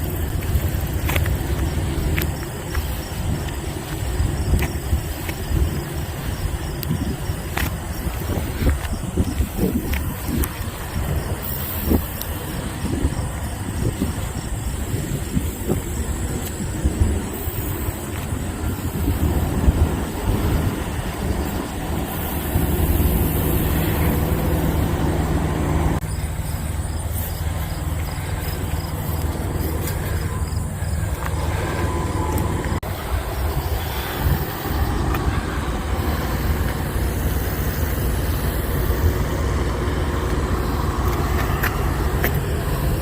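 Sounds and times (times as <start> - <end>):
diesel truck engines idling: 0.0 - 43.0
hum: 0.0 - 43.0.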